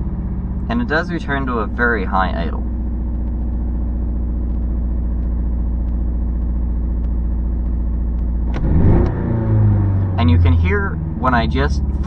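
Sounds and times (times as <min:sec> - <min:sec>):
car engine high idle: 0:00.0 - 0:12.0.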